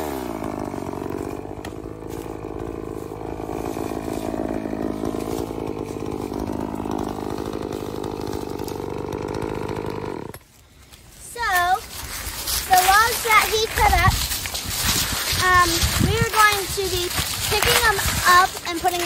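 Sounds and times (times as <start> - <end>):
chainsaw idling: 0.0 - 19.0.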